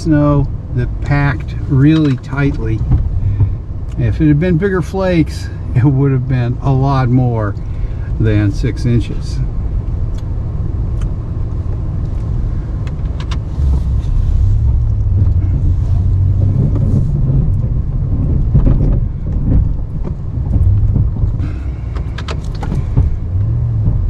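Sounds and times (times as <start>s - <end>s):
pickup engine under load: 0.0s - 24.0s.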